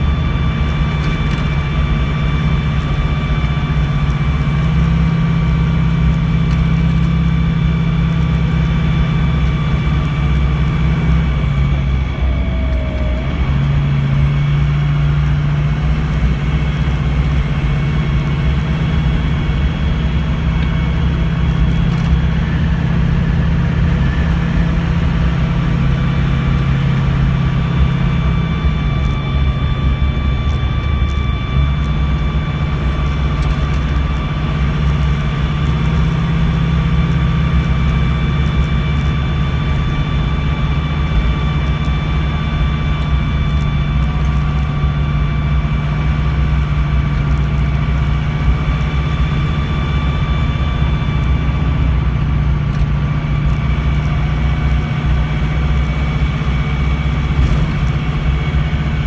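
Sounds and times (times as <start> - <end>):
diesel engine running: 0.0 - 59.0
road noise: 0.0 - 59.0
steady high whine: 0.0 - 59.0.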